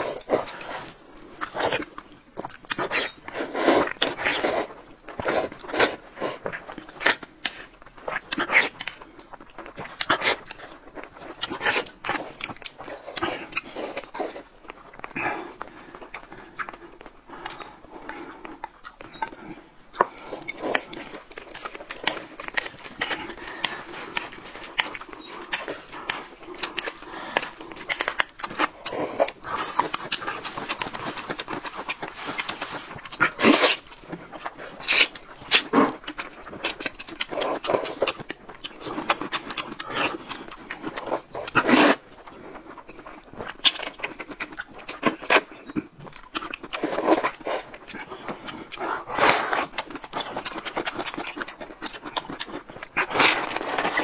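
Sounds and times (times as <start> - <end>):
noodles being slurped: 0.0 - 15.3, 17.6 - 54.0
chewing and wet smacking: 0.0 - 54.0.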